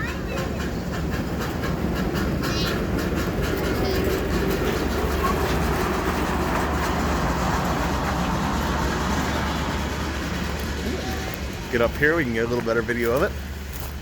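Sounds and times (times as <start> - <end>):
miniature steam train running: 0.0 - 14.0.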